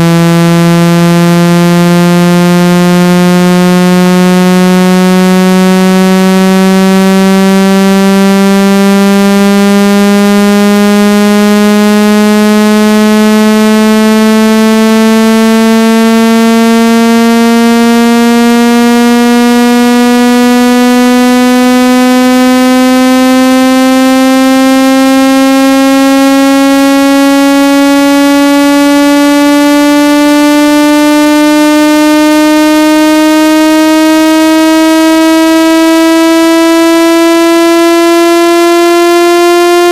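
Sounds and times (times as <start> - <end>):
buzzy electronic tone rising: 0.0 - 39.9.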